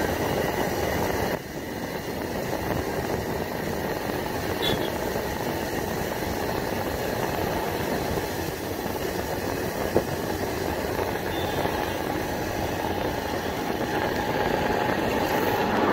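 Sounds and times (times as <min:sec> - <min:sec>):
motorcycle engine at speed: 0:00.0 - 0:15.9
road and wind noise: 0:00.0 - 0:15.9.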